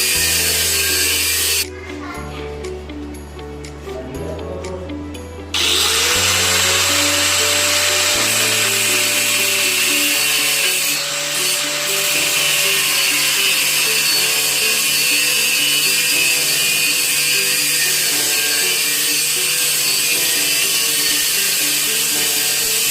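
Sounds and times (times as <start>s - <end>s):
grinder cutting steel pipe: 0.0s - 1.7s, 5.5s - 22.9s
background music: 0.0s - 22.9s.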